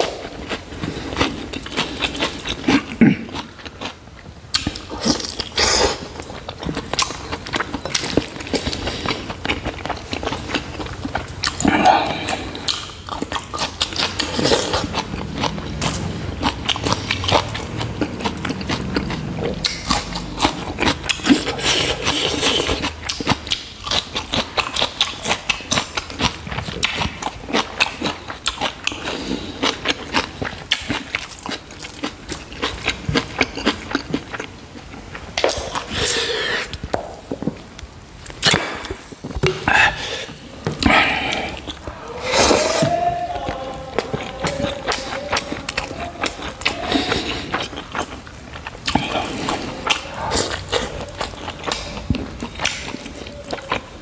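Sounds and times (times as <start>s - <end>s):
man chewing with wet smacks: 0.0s - 54.0s.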